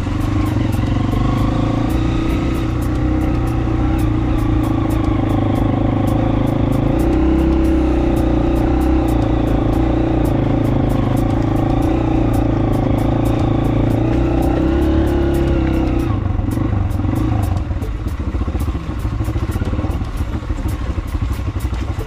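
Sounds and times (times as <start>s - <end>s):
small motorcycle engine: 0.0s - 22.0s.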